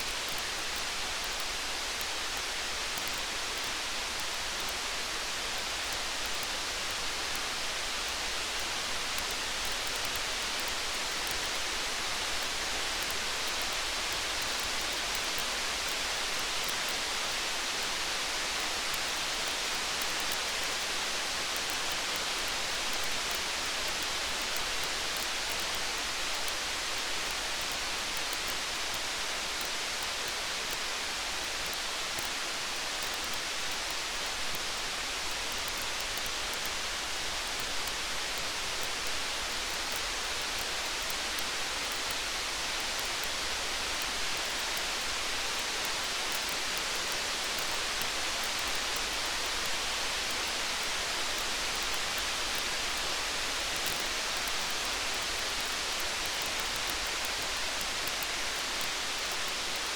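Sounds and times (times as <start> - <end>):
faint tiny ticks: 0.0 - 59.9
steady rain hiss: 0.0 - 59.9.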